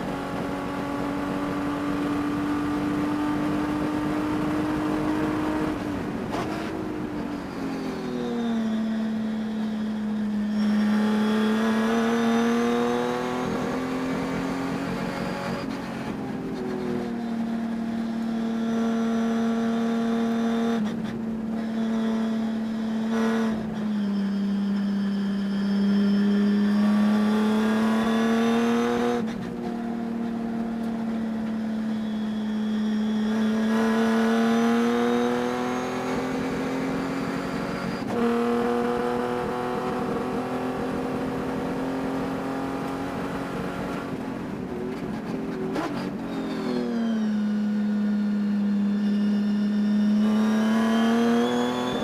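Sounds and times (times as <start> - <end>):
race engine at full throttle: 0.0 - 52.0.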